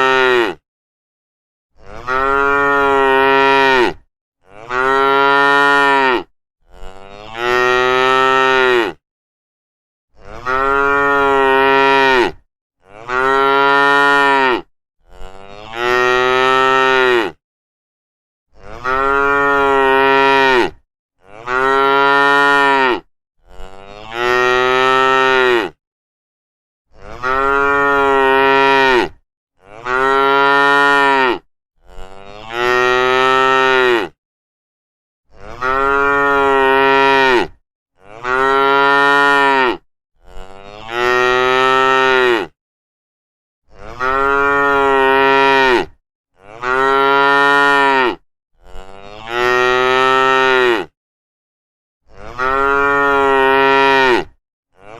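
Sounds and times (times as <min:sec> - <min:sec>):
cow mooing: 0:00.0 - 0:00.6, 0:01.8 - 0:09.0, 0:10.2 - 0:17.4, 0:18.5 - 0:25.8, 0:27.0 - 0:34.2, 0:35.3 - 0:42.6, 0:43.7 - 0:51.0, 0:52.1 - 0:54.9.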